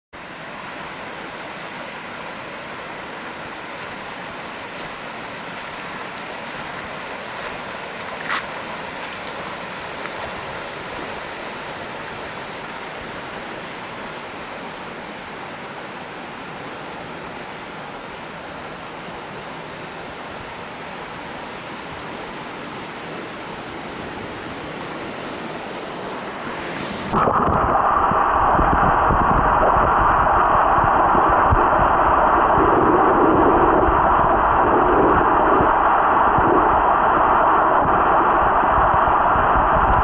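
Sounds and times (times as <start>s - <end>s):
river flowing over rocks: 0.2s - 40.0s.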